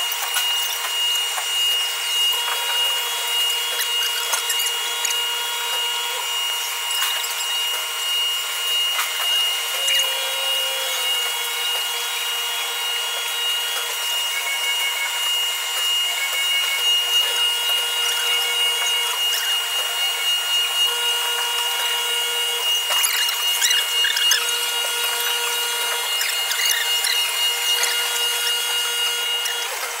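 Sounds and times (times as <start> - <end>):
milling spindle high whine: 0.0 - 30.0.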